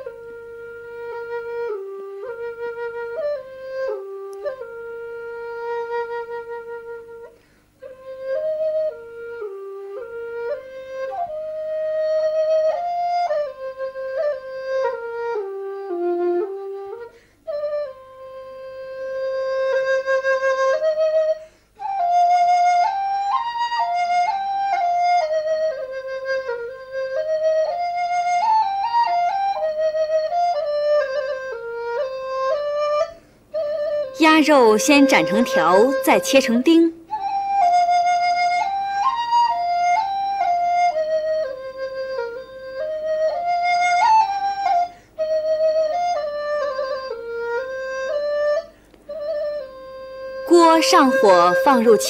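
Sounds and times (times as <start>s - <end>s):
solo flute melody: 0.0s - 52.0s.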